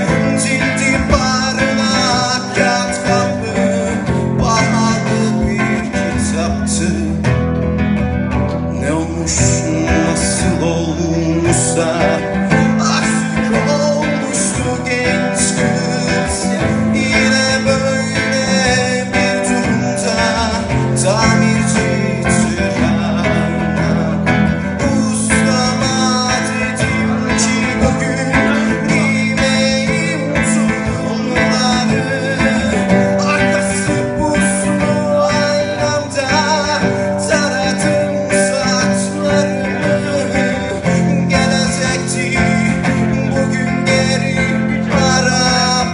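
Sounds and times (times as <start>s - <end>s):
man singing into a microphone: 0.0s - 7.8s, 8.4s - 45.9s
acoustic guitar strumming: 0.0s - 45.9s.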